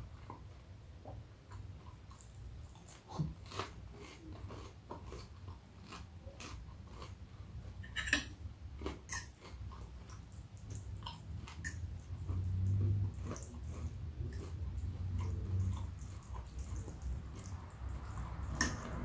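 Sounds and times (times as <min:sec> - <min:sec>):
chewing crunchy food: 0:00.0 - 0:19.0
faint low hum: 0:00.0 - 0:19.0.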